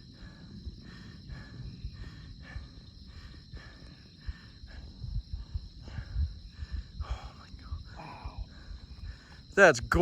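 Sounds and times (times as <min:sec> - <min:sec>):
low rumble: 0:00.0 - 0:09.3
insect pulsing call: 0:00.0 - 0:10.0
insects trilling: 0:00.0 - 0:10.0.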